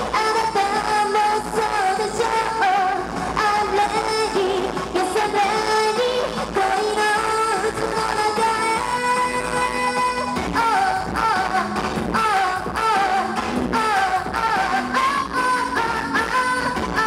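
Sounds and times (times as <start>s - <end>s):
musical accompaniment: 0.0s - 17.0s
woman singing into a microphone: 0.0s - 17.0s.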